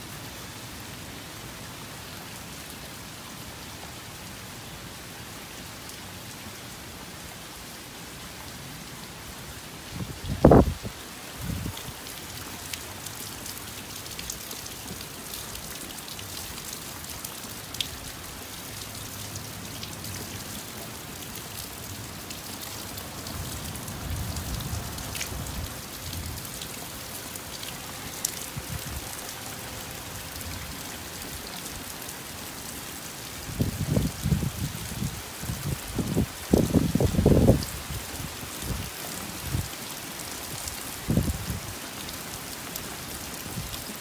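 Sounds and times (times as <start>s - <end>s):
steady rain hiss: 0.0s - 44.0s.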